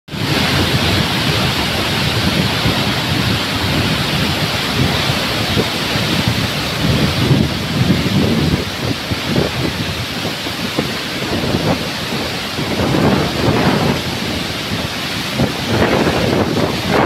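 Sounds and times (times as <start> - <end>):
water rushing through spillway: 0.1 - 17.0.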